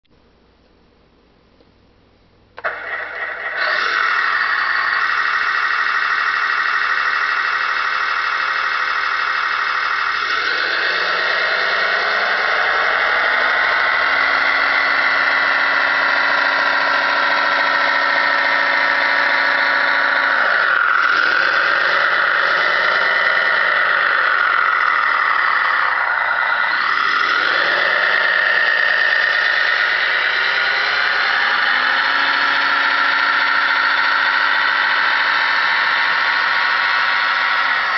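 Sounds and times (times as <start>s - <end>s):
simulated diesel engine from speaker: 2.6s - 37.9s.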